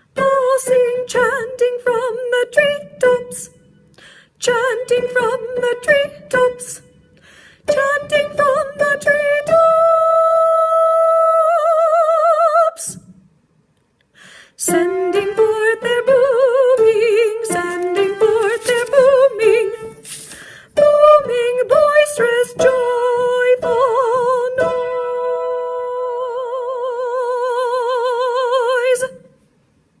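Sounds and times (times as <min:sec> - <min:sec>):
woman singing with vibrato: 0:00.0 - 0:03.7, 0:04.4 - 0:13.1, 0:14.6 - 0:29.4.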